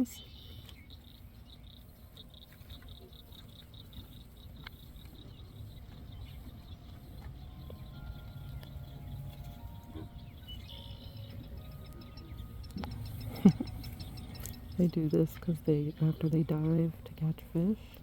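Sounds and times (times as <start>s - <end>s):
high chirps: 0.0s - 16.8s
faint scattered calls: 0.0s - 17.8s
steady low rumble: 0.5s - 18.0s.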